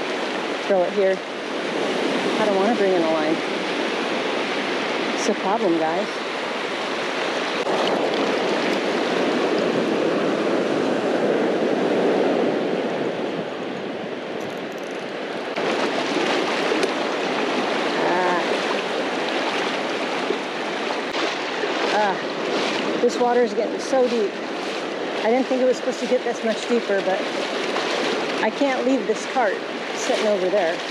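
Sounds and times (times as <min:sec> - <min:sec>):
surf washing over shallow water: 0:00.0 - 0:30.9.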